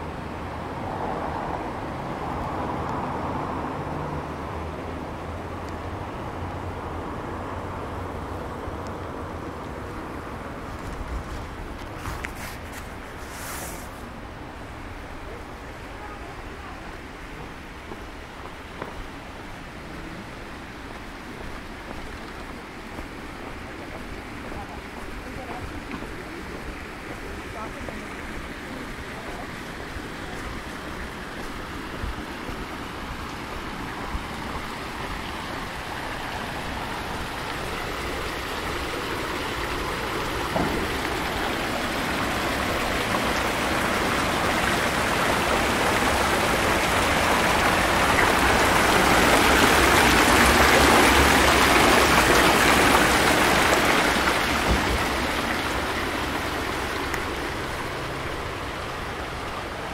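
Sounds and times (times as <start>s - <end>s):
fountain water splashing: 0.0s - 59.9s.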